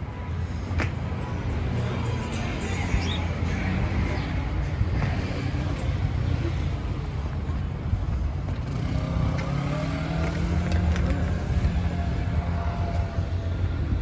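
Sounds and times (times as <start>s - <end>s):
traffic engines rumbling: 0.0s - 14.0s.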